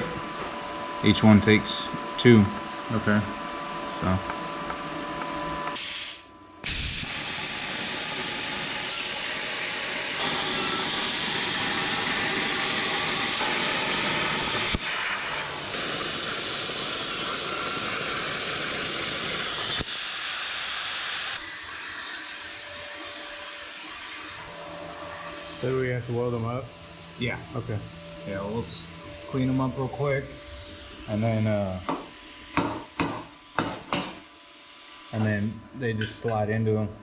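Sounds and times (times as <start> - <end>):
plasma torch cutting hiss: 5.8 - 35.6.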